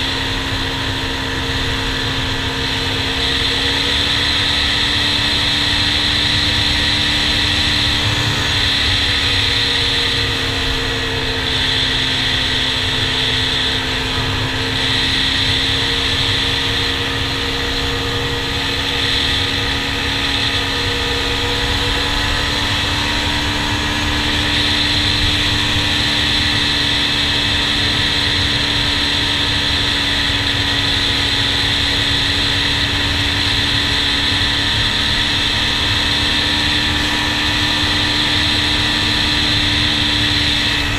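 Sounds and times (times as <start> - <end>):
quad engine running: 0.0 - 40.9
wind and road noise: 0.0 - 40.9.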